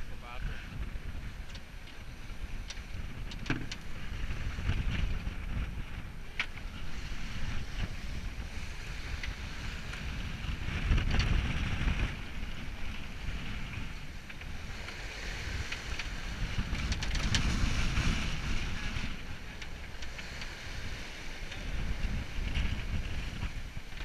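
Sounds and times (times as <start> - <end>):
water rushing along hull: 0.0 - 24.0
wind buffeting microphone: 0.0 - 24.0.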